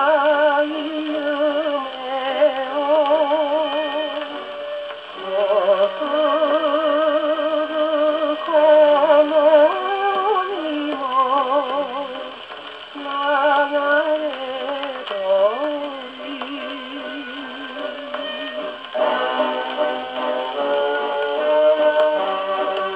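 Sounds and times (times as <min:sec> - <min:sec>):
man singing on gramophone record: 0:00.0 - 0:22.9.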